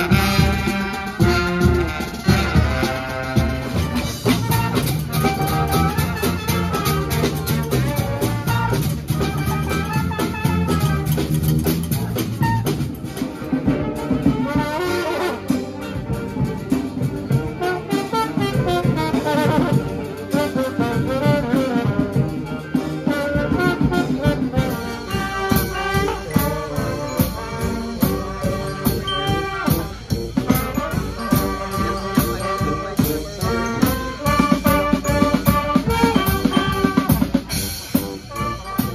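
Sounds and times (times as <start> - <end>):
brass street band playing: 0.0 - 38.9
steady drum beat: 0.0 - 38.9.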